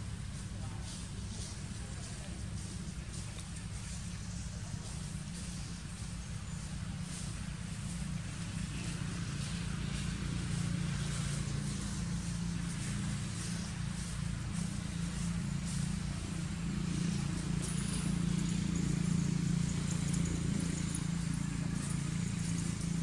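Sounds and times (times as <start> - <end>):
rustling dry leaves: 0.0 - 23.0
steady low hum: 0.0 - 23.0.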